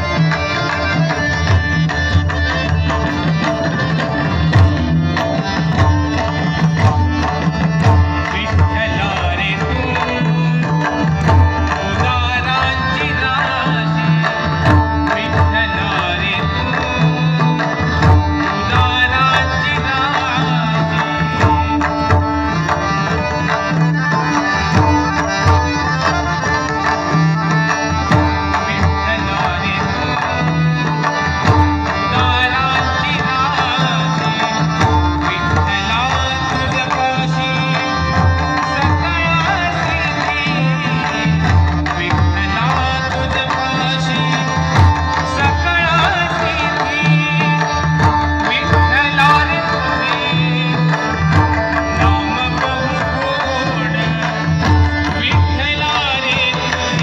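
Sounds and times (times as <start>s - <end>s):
person singing devotional song: 0.0s - 57.0s.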